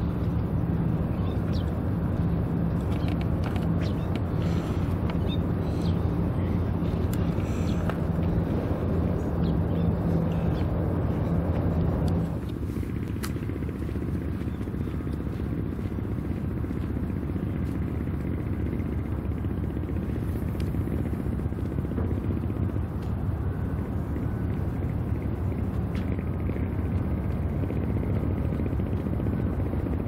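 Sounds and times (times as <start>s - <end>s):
low engine drone: 0.0s - 30.0s
low outdoor rumble: 0.0s - 30.0s.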